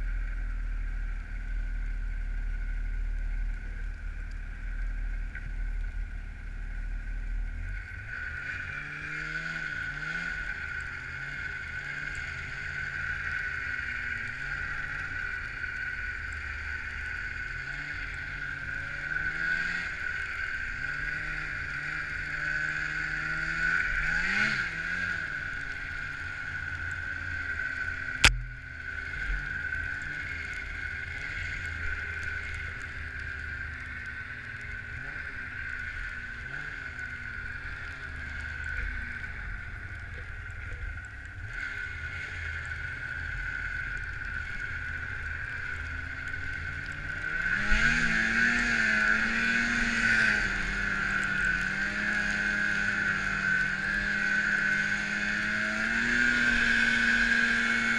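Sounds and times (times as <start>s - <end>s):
snowmobile engine: 0.0s - 57.9s.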